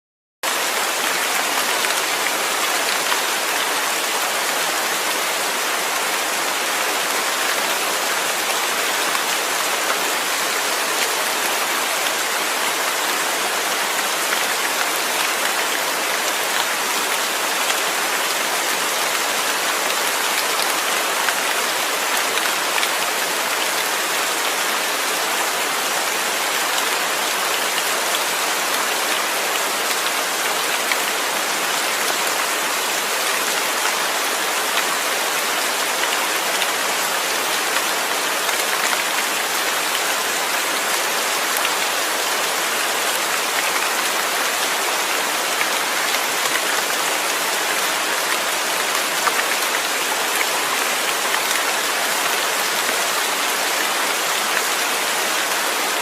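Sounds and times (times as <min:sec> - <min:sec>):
steady rain falling: 0:00.4 - 0:56.0.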